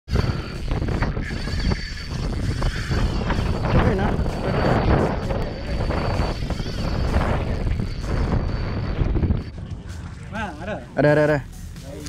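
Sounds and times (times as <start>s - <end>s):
wind buffeting microphone: 0.1s - 10.9s.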